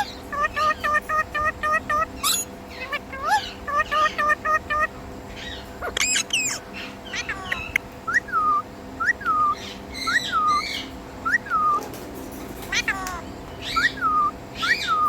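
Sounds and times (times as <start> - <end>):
parrot calling: 0.0 - 11.8, 12.6 - 15.0.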